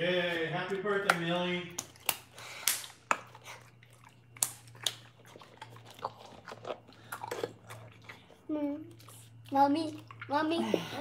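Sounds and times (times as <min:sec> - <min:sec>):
dog crunching biscuit: 0:01.1 - 0:10.2.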